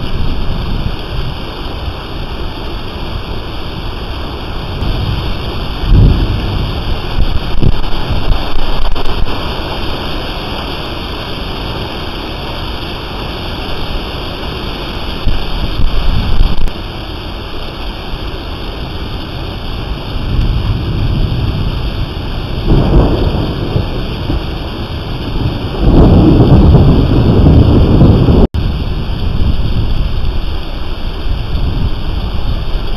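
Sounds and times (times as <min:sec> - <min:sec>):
thunder rolling: 0:00.0 - 0:03.2, 0:03.8 - 0:16.8, 0:18.8 - 0:32.9
steady rain falling: 0:00.0 - 0:32.9.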